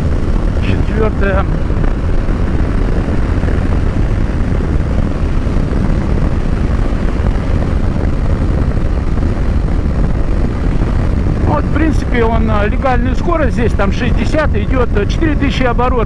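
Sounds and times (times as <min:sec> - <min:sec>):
motorcycle engine running: 0:00.0 - 0:16.0
road noise: 0:00.0 - 0:16.0
wind noise: 0:00.0 - 0:16.0.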